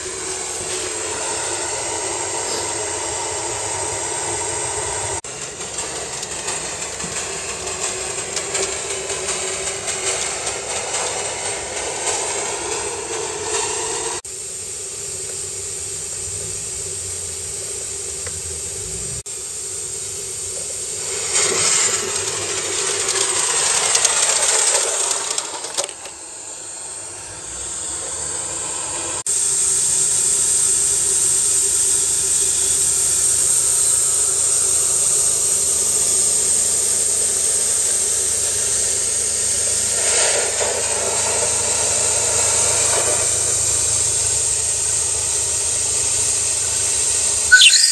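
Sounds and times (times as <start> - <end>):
steam engine working: 0.0 - 47.9
steam hissing: 0.0 - 47.9.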